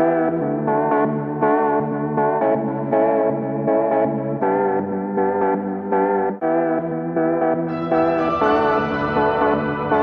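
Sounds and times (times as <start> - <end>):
sustained keyboard chords: 0.0 - 10.0.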